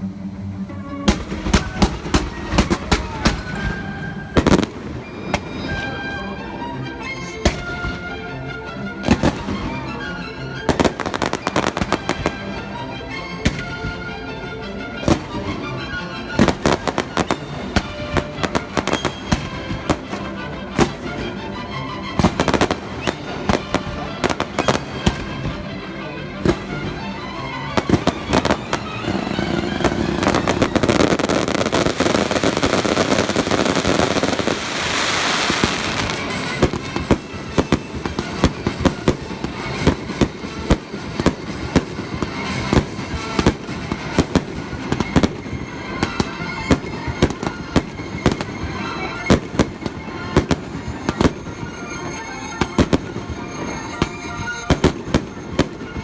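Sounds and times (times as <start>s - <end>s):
fireworks bursting: 0.0s - 56.0s
music playing: 0.0s - 56.0s.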